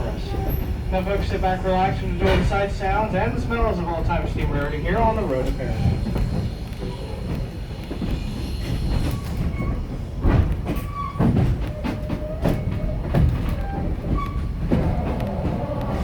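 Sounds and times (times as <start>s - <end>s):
train coach rumbling on track: 0.0s - 16.0s.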